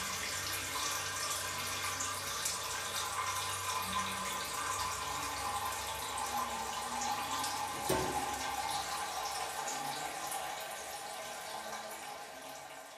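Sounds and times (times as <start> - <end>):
water running: 0.0 - 12.9.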